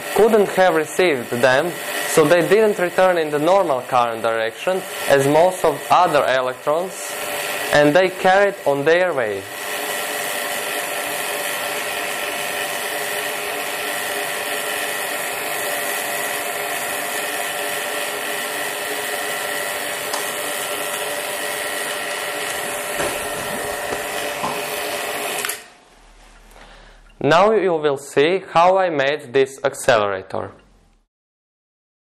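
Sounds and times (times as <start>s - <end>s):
vacuum pump running: 0.0s - 27.6s.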